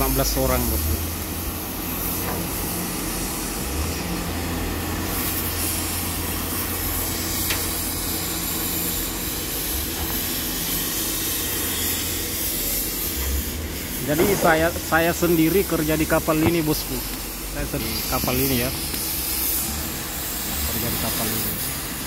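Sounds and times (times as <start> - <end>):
gas cutting torches hissing: 0.0 - 22.0
low machinery hum: 0.0 - 22.0.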